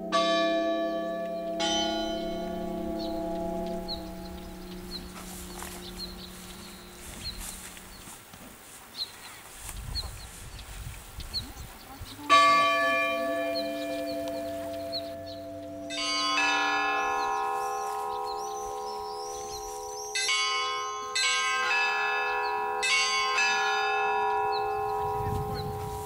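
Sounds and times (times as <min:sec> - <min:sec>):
church bells ringing: 0:00.0 - 0:08.2, 0:12.1 - 0:26.0.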